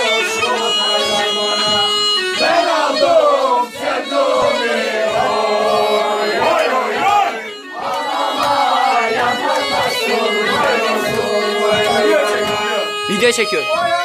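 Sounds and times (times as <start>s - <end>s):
bagpipe tune over drone: 0.0s - 14.0s
voices singing along: 0.0s - 14.0s.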